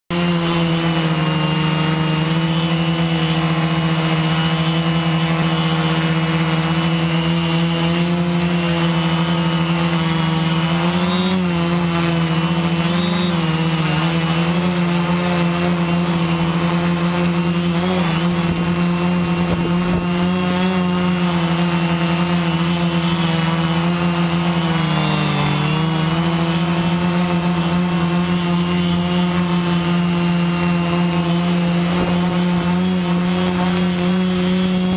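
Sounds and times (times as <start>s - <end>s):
drone motors humming: 0.1s - 34.9s.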